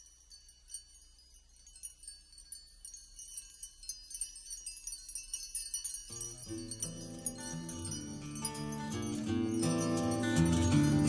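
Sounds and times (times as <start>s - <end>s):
tinkling chimes: 0.0s - 11.0s.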